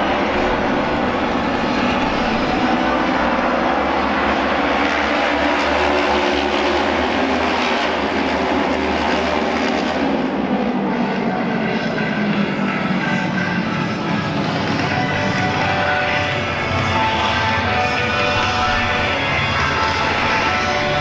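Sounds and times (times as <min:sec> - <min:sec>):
racing motorcycle engines drone: 0:00.0 - 0:21.0.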